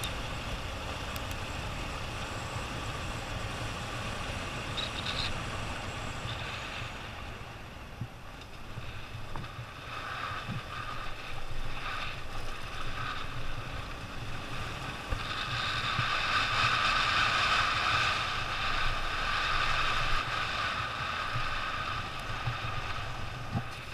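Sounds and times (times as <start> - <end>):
motorcycle engine running: 0.0 - 23.9
wind noise on microphone: 0.0 - 23.9.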